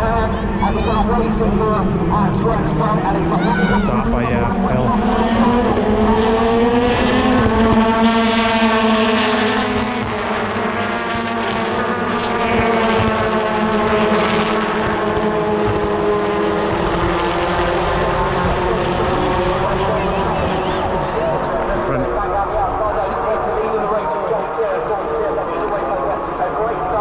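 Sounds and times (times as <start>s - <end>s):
race car engines at high revs: 0.0s - 27.0s.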